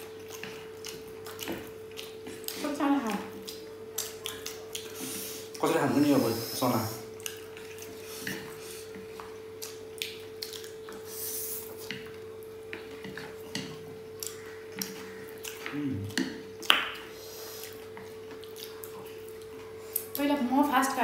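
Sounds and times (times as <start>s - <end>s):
mouth sounds eating: 0.0s - 12.0s, 14.1s - 20.2s
steady low hum: 0.0s - 21.0s.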